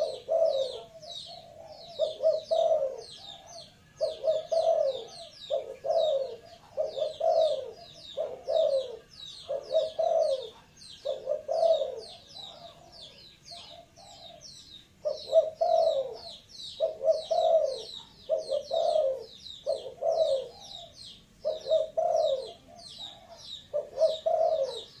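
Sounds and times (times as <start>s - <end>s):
dove cooing: 0.0s - 25.0s
small birds chirping: 0.0s - 25.0s.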